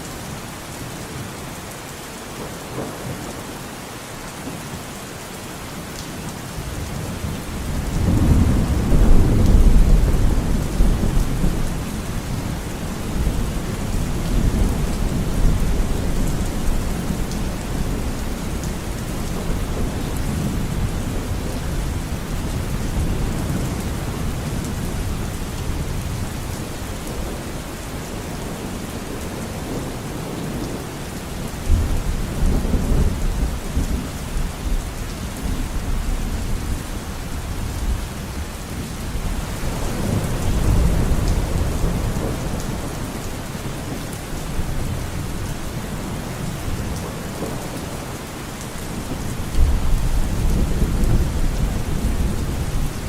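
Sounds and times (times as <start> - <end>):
heavy rain falling: 0.0 - 53.0
low thunder rumbles: 6.8 - 30.8, 31.6 - 48.2, 48.9 - 53.0.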